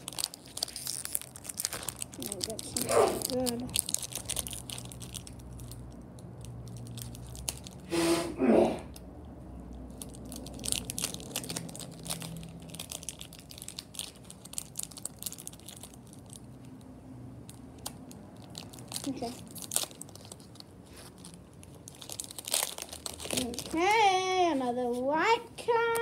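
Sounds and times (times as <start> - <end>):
foil wrapper crinkling: 0.0 - 7.9, 9.7 - 25.1
foil wrapper tearing: 0.0 - 7.9, 9.9 - 16.8, 17.4 - 24.2.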